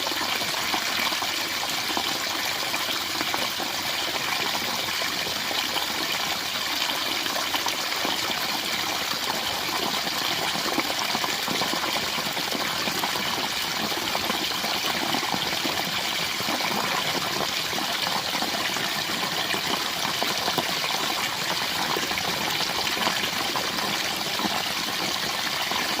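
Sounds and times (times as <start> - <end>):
small waterfall splashing: 0.0 - 26.0.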